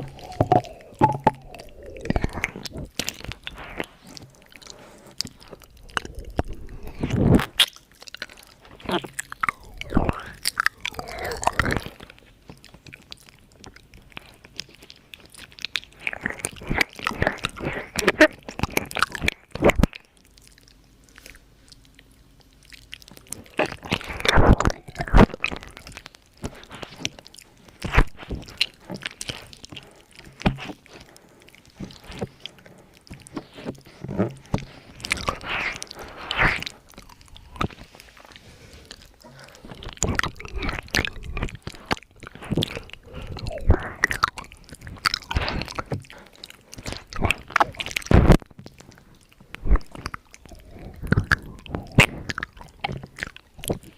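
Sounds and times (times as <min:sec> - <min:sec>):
wet mouth clicks and smacks: 0:00.0 - 0:53.9.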